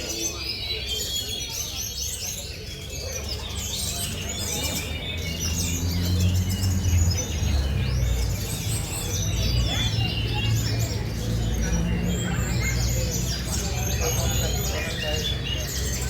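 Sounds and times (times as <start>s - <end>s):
many songbirds singing: 0.0s - 16.0s.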